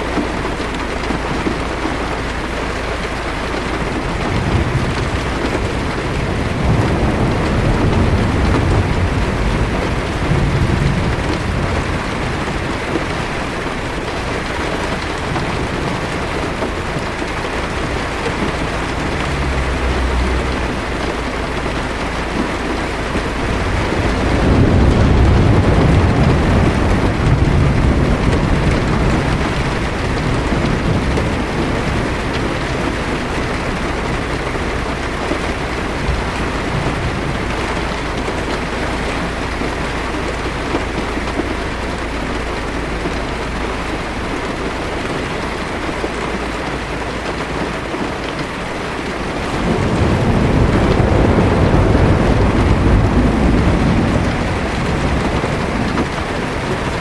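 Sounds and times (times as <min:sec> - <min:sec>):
thunder rumble: 0:00.0 - 0:46.5, 0:47.3 - 0:57.0
heavy rain on a car roof: 0:00.0 - 0:57.0.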